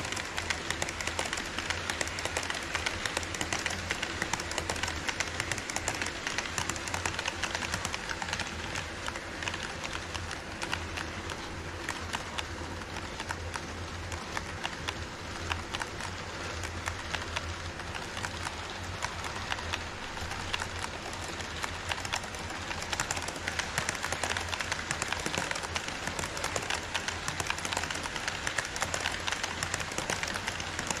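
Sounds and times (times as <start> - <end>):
model train wheels clattering: 0.0 - 31.0.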